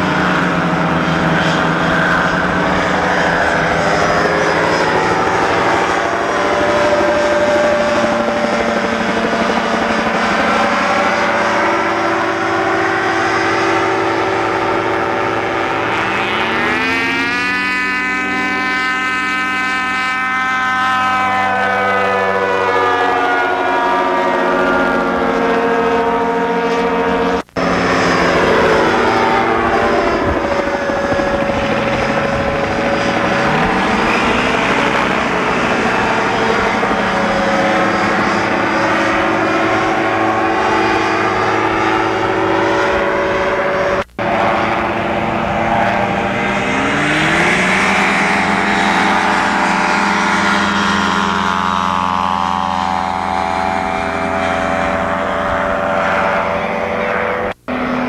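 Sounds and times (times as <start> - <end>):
propeller aircraft droning overhead: 0.0 - 58.0.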